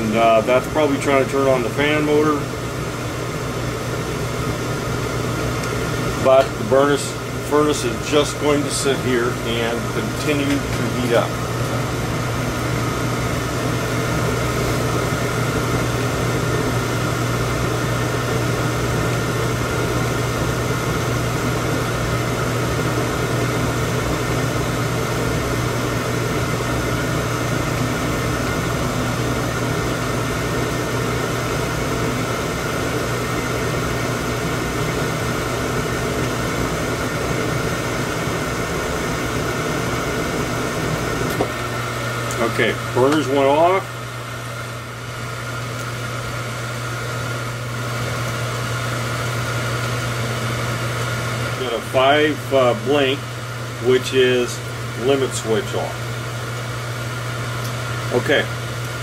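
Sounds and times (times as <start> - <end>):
furnace hum: 0.0 - 59.0.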